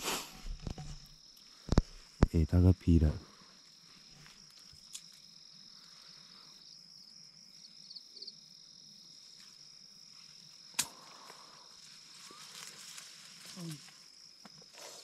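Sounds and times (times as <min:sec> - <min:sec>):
crickets trilling: 0:00.1 - 0:15.0.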